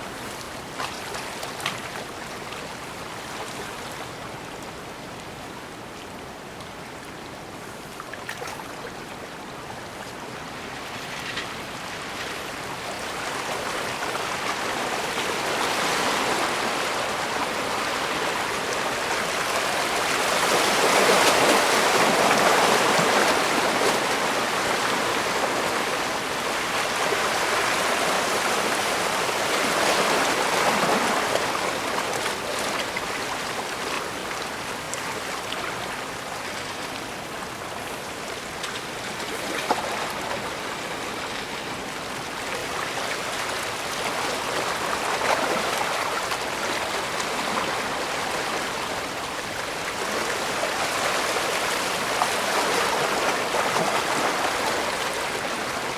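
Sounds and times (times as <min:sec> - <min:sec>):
water washing along the shore: 0:00.0 - 0:55.9.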